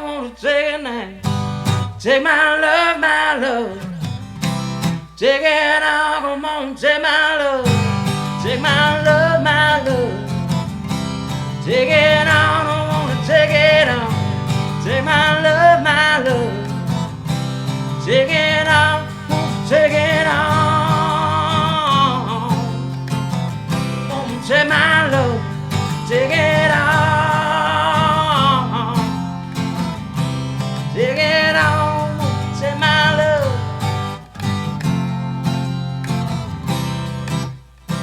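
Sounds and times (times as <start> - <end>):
person singing wordless notes: 0.0 - 4.1, 5.0 - 29.8, 30.4 - 34.3
strummed acoustic guitars: 0.0 - 38.0.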